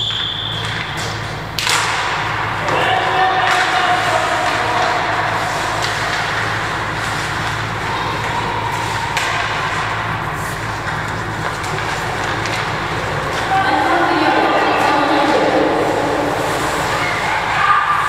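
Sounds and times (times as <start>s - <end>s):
skates on ice: 0.0s - 18.0s
steady low hum: 0.0s - 18.0s.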